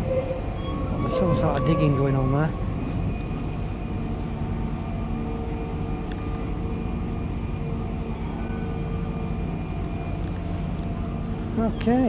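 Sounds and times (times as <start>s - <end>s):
distant diesel machinery drone: 0.0s - 12.0s.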